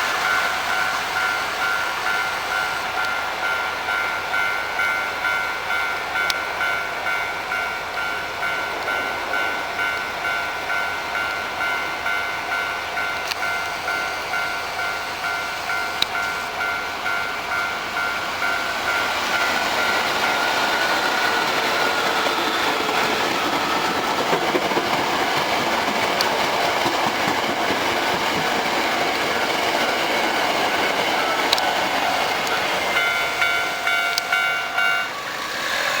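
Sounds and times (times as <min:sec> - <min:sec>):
crossing bell ringing: 0:00.0 - 0:36.0
electric train passing: 0:00.0 - 0:36.0.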